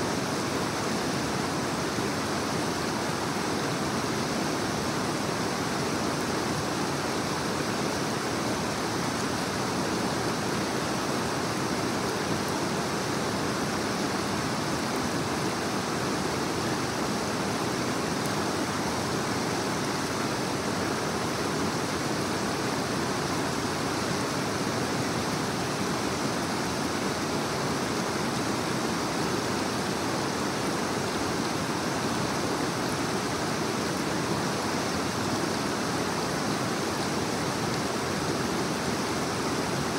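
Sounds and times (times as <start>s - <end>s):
water rushing over rocks: 0.1s - 39.9s.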